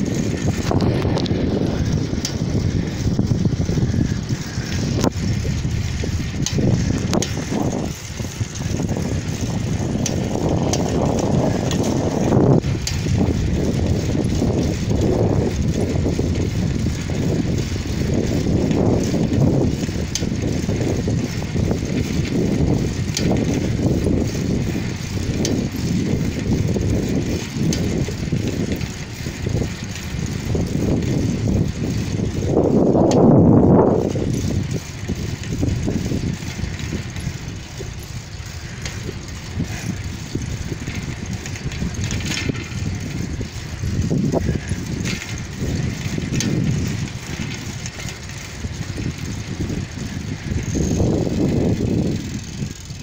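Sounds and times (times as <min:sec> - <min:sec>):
faint clicks and rattles: 0:00.0 - 0:53.0
wind buffeting microphone: 0:00.0 - 0:53.0.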